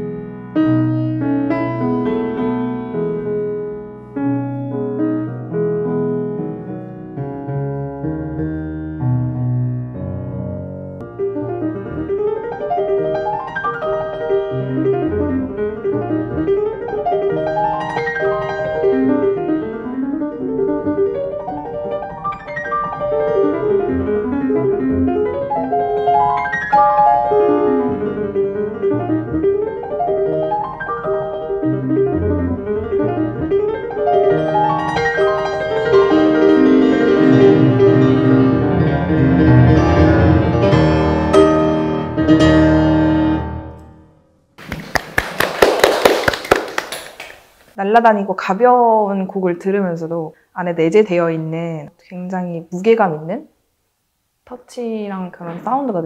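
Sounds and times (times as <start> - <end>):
solo grand piano: 0.0 - 47.8.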